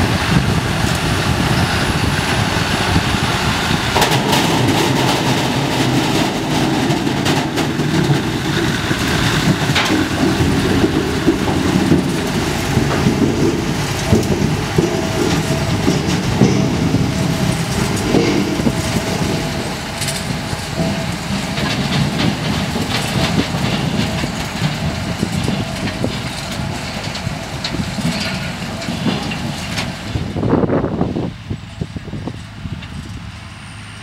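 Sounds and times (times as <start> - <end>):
harvester machinery droning: 0.0 - 34.0.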